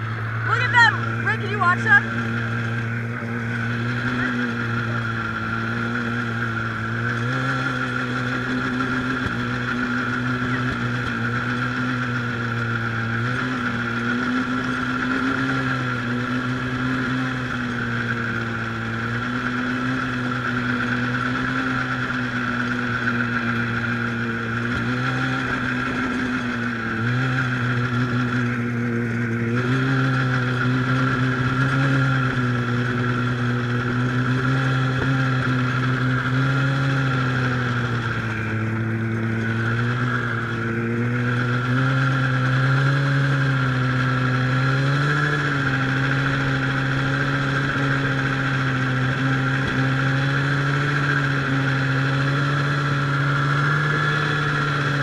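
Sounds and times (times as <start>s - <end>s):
snowmobile engine running: 0.0s - 55.0s
steady high whine: 0.0s - 55.0s.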